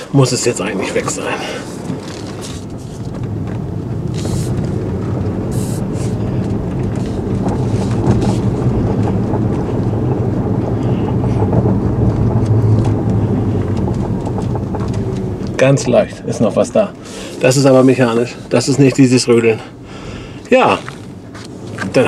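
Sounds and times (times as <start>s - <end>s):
tyre and road rumble: 0.0s - 22.0s.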